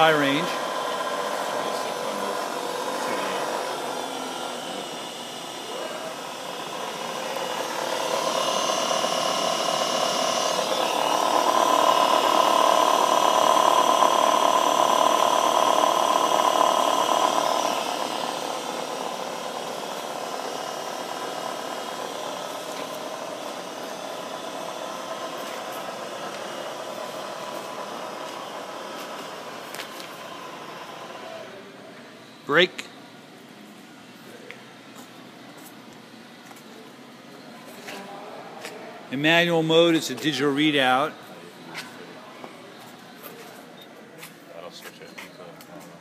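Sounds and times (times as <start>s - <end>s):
milling machine spindle whine: 0.0s - 38.2s, 39.2s - 44.0s.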